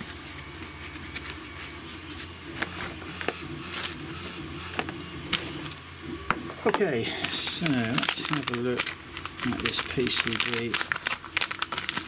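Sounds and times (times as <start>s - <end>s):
packaging rustling: 0.0s - 5.8s, 6.6s - 12.0s
steady low hum: 0.1s - 12.0s.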